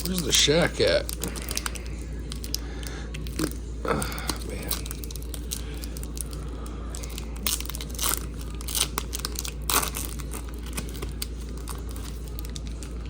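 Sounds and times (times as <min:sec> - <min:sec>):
steady low hum: 0:00.0 - 0:13.0
wrapper crinkling and tearing: 0:00.0 - 0:13.0.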